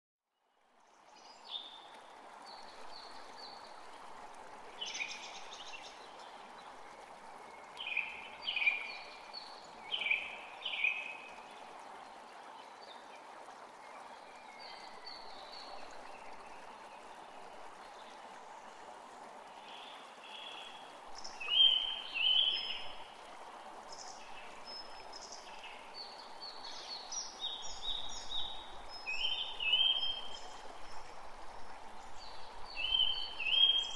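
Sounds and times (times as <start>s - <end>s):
running water hiss: 0.8s - 33.9s.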